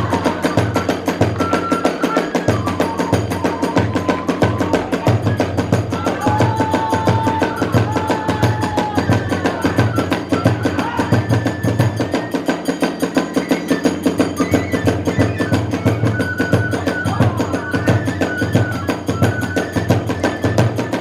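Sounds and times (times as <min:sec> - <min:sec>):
bamboo flute high notes: 0:00.0 - 0:21.0
hand cymbals striking: 0:00.0 - 0:21.0
taiko drum beat: 0:00.0 - 0:21.0.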